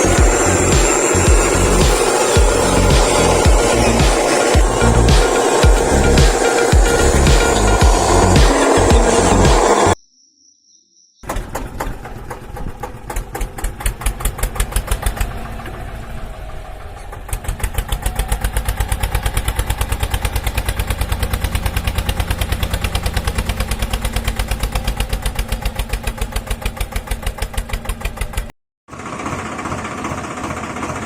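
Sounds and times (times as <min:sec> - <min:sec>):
tractor engine chugging: 0:00.0 - 0:10.0, 0:11.3 - 0:31.0.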